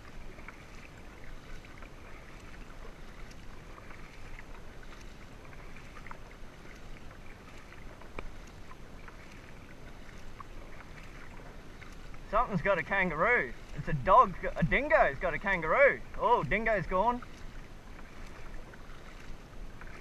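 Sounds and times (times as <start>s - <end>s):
water lapping and dripping: 0.0s - 20.0s.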